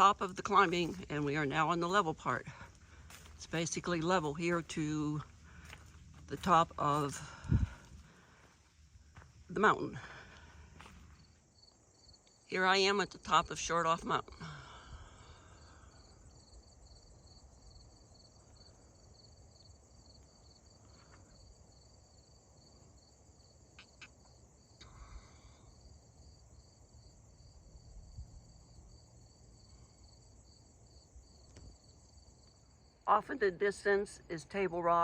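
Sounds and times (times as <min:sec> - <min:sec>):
insect trill: 0:00.0 - 0:13.5, 0:14.2 - 0:33.2.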